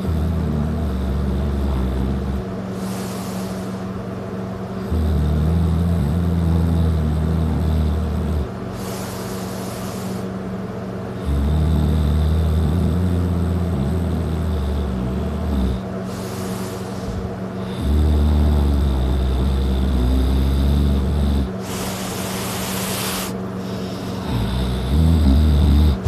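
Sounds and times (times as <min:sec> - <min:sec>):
man snoring heavily: 0:00.0 - 0:03.9, 0:04.8 - 0:10.4, 0:11.1 - 0:26.0.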